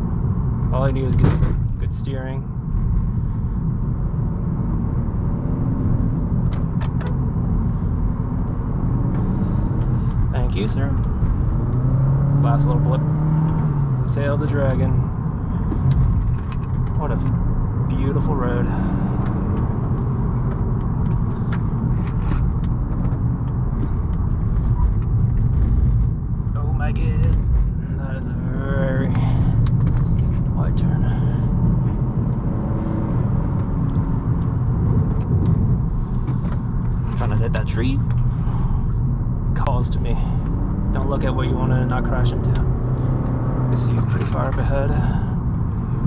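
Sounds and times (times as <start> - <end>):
car engine running: 0.0 - 46.0
tyres rumbling on road: 0.0 - 46.0.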